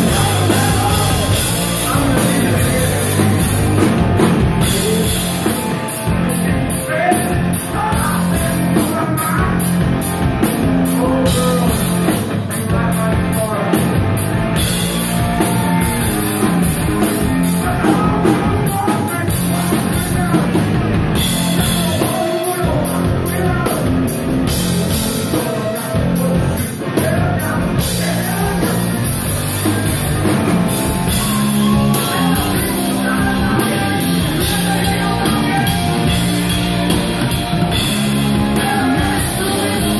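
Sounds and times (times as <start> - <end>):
drum kit with crashing cymbals: 0.0 - 39.9
electric guitar: 0.0 - 39.9
man singing: 0.0 - 39.9.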